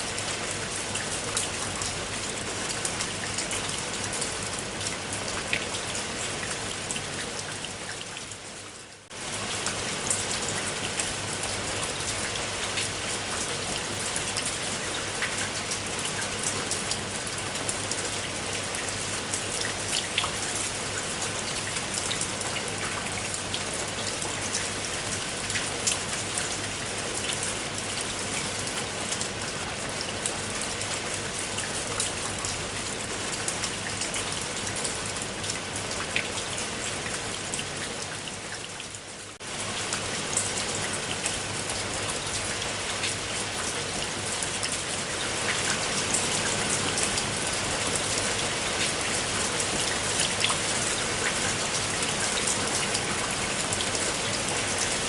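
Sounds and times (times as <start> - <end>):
raindrops ticking on a surface: 0.0 - 55.0
steady rainfall: 0.0 - 55.0.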